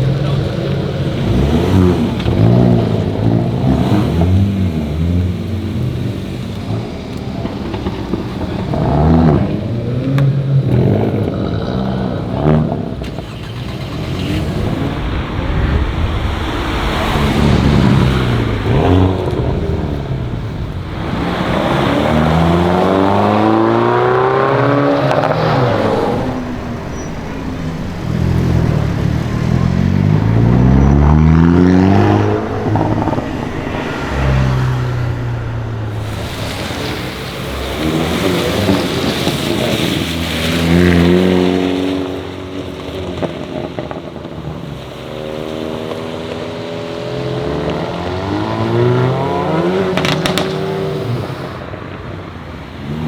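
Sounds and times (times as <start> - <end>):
car engine revving and accelerating: 0.0 - 53.0.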